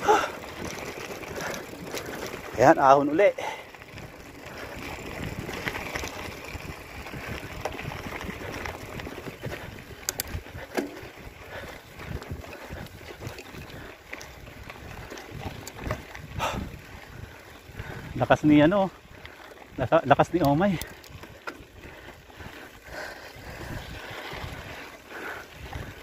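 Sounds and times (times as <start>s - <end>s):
bike frame rattling: 0.0s - 26.0s
tyres crunching on gravel: 0.0s - 26.0s.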